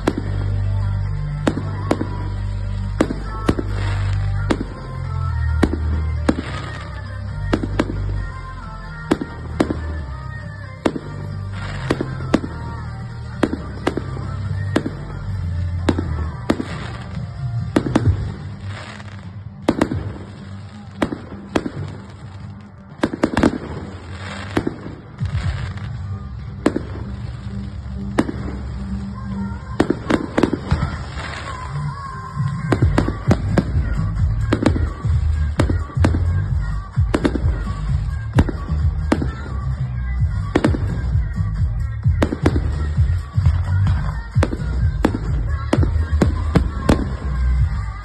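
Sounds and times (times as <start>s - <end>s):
fireworks bangs and cracks: 0.0s - 48.0s.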